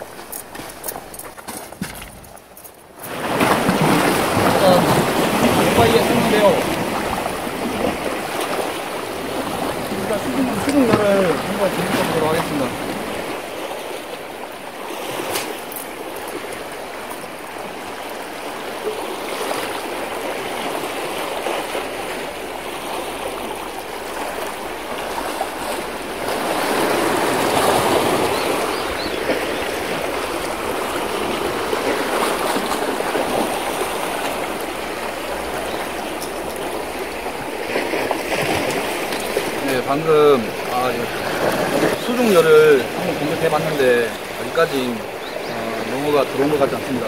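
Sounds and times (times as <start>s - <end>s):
sea water lapping against rocks: 0.0s - 47.0s.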